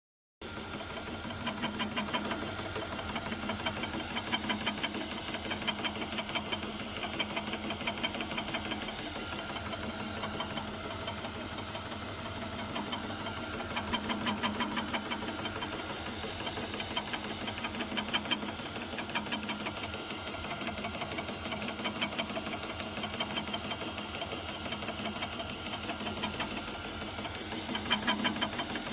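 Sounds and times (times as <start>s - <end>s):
electric milling cutter running: 0.4s - 24.2s, 25.0s - 28.9s.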